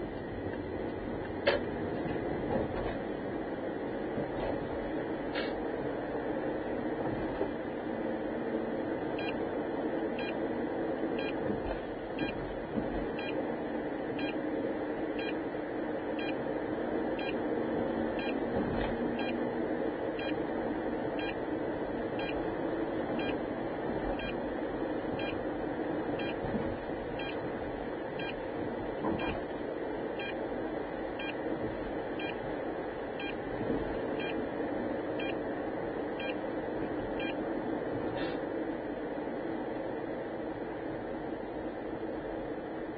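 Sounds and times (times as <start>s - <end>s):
car road and engine noise: 0.0s - 42.9s.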